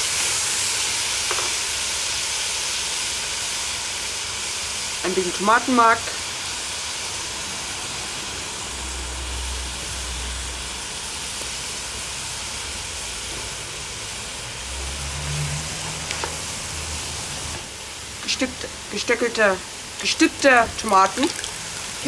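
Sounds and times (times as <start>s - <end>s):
vegetables sizzling in a pot: 0.0s - 22.0s.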